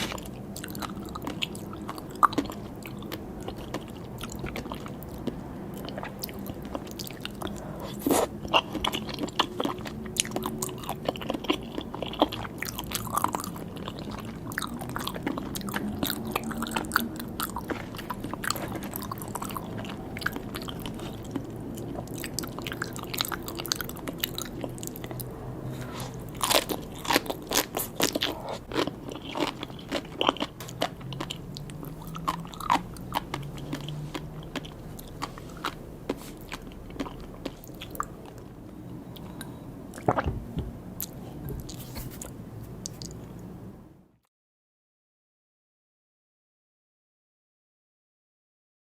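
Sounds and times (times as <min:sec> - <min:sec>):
chewing with crisp pops: 0:00.0 - 0:25.3, 0:26.1 - 0:40.4, 0:41.0 - 0:43.5.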